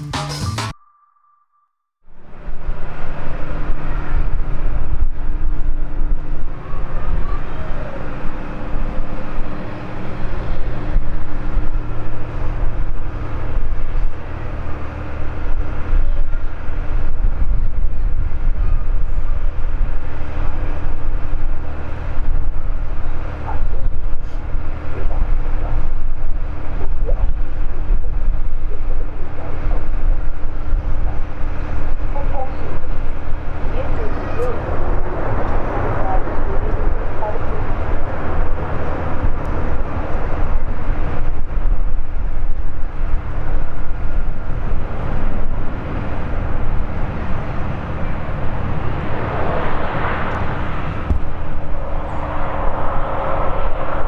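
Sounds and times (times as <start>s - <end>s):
airliner jet engines droning: 2.1s - 54.0s.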